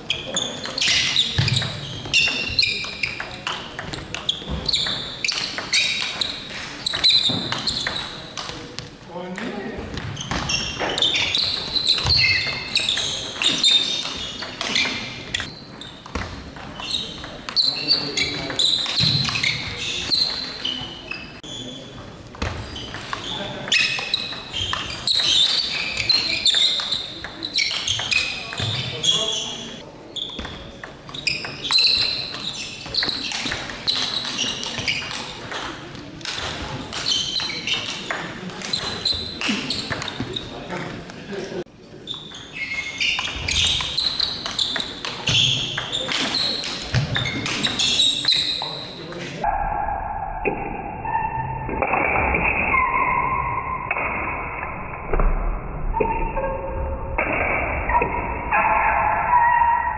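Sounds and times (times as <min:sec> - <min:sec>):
shoes squeaking on floor: 0:00.0 - 0:41.3, 0:42.0 - 0:49.5.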